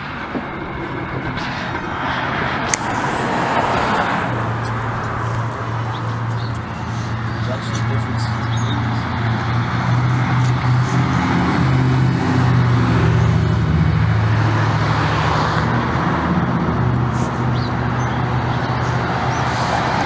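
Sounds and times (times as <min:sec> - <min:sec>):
road noise: 0:00.0 - 0:20.0
vehicle engine humming: 0:00.0 - 0:20.0.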